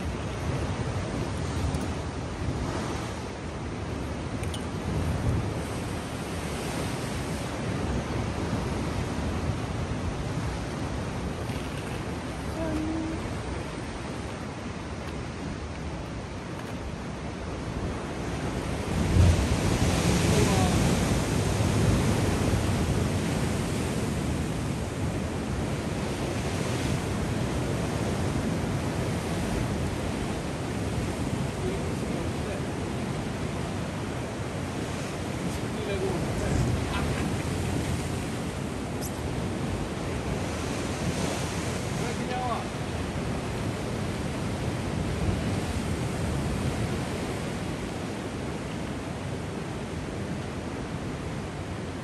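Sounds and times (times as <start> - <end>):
ocean surf rushing: 0.0 - 52.0.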